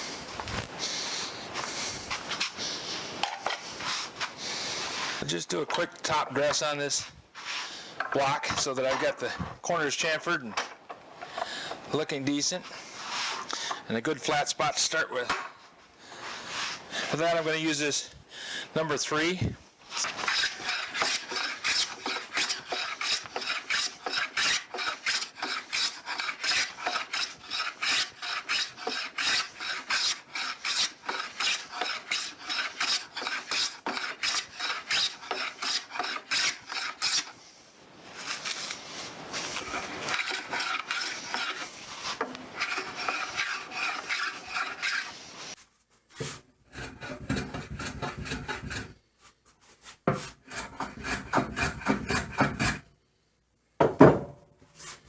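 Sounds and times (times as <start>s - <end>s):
hand plane shaving wood: 0.5s - 10.5s, 11.2s - 15.4s, 16.1s - 17.5s, 18.8s - 45.6s, 46.2s - 49.1s, 49.7s - 52.9s.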